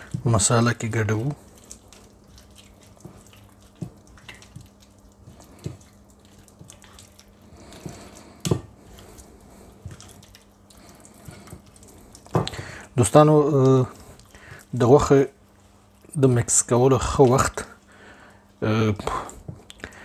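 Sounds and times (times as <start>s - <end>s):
wet squelching of marinated chicken: 0.0s - 20.0s.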